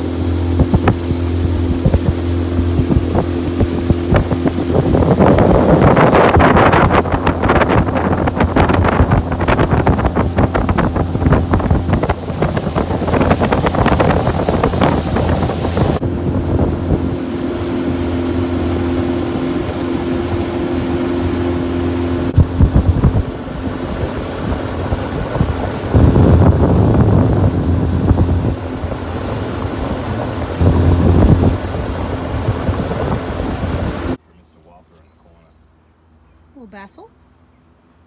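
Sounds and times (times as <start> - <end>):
outboard motor humming: 0.0 - 34.2
wind buffeting microphone: 0.0 - 34.2.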